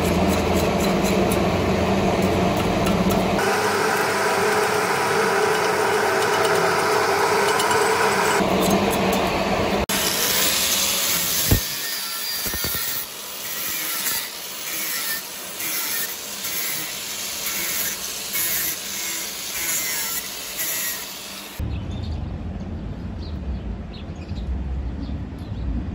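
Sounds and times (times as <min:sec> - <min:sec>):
angle grinder grinding metal: 0:00.0 - 0:21.6.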